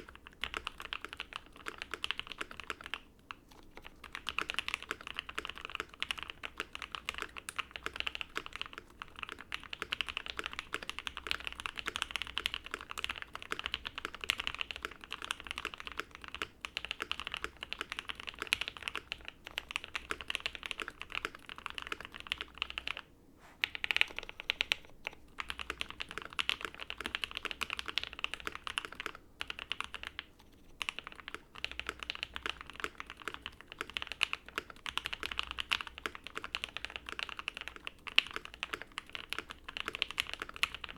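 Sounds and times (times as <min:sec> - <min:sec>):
mechanical keyboard typing: 0:00.0 - 0:23.0, 0:23.6 - 0:40.9.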